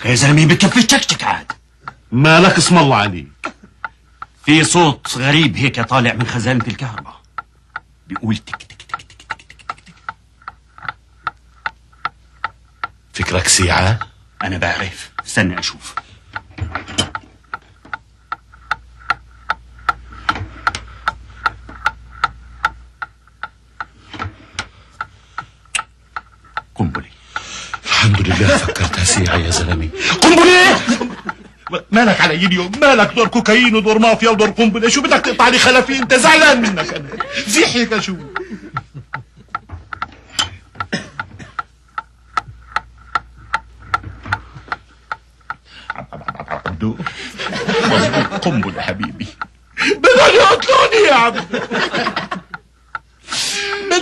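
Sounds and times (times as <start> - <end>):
clock-like ticking: 0.0 - 54.0.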